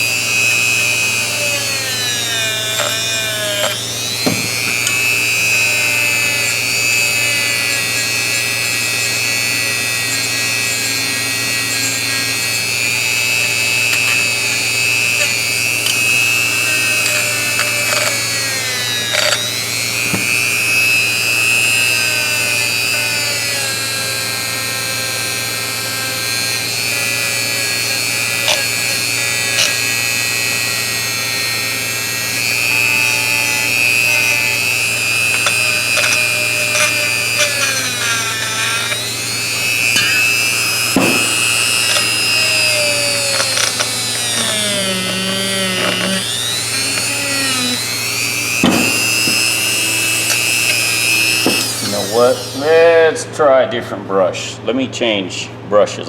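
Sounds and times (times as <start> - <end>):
power tool brush whining: 0.0 - 53.3.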